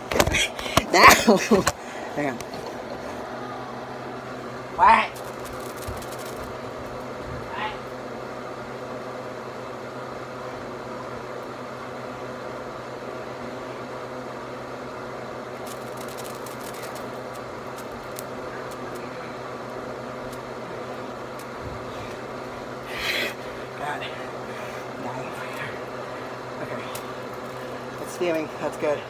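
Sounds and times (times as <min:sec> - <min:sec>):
motor hum: 0:00.0 - 0:29.0.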